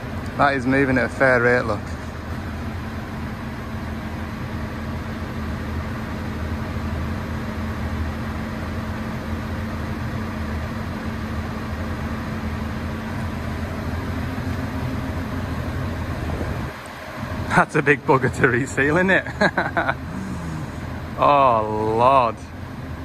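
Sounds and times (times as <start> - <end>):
excavator diesel engine idling: 0.0 - 23.0.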